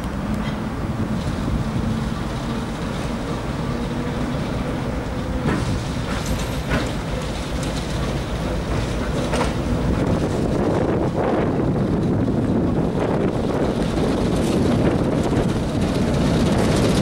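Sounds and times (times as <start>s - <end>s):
diesel locomotive engine drone: 0.0s - 17.0s
wheels clicking on track: 0.0s - 17.0s.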